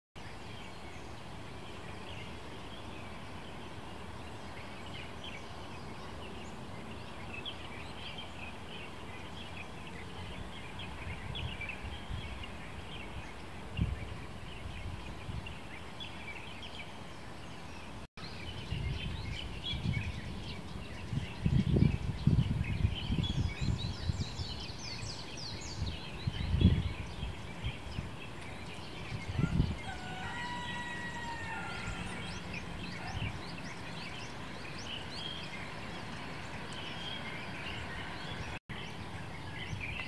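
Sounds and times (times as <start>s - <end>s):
small birds chirping: 0.2s - 40.0s.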